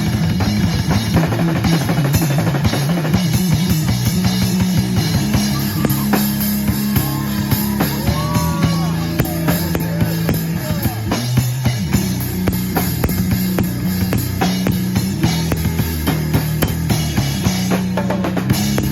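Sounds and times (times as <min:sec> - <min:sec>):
drum kit beat: 0:00.0 - 0:18.9
held bass notes: 0:00.0 - 0:18.9.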